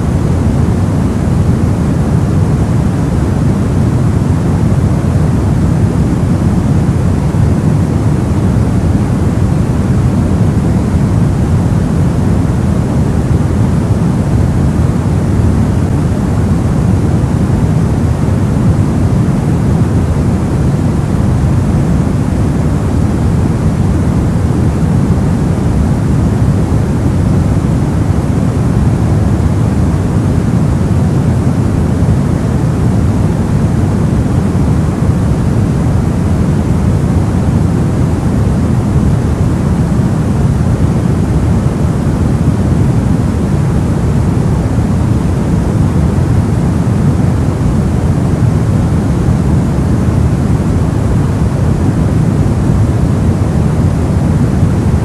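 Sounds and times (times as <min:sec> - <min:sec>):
deep rushing white noise: 0:00.0 - 0:55.0.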